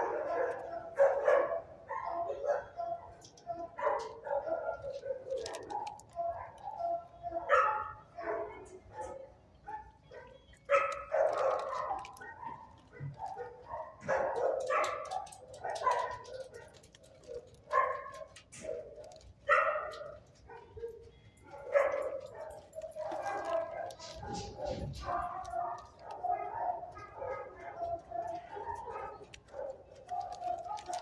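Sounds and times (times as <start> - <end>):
dogs barking: 0.0 - 31.0.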